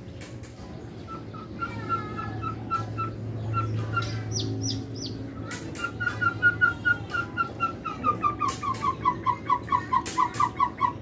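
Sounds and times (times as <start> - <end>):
songbird whistling notes: 1.0 - 11.0.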